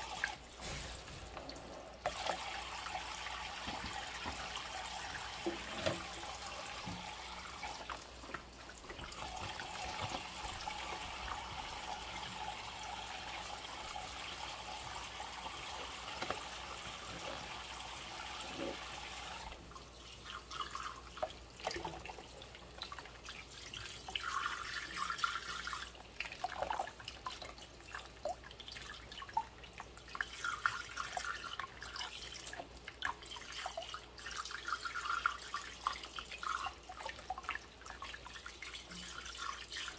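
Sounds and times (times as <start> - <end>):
water running into sink: 0.0 - 39.9.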